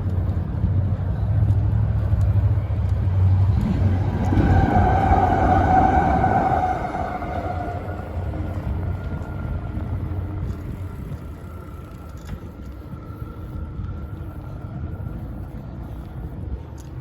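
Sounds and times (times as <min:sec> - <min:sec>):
bicycle riding noise: 0:00.0 - 0:17.0
wind on microphone: 0:00.0 - 0:17.0.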